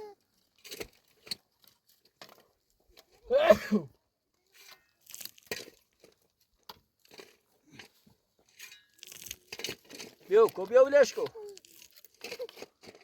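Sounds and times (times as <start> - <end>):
faint clicks and crunching: 0.1 - 3.3, 4.0 - 13.0.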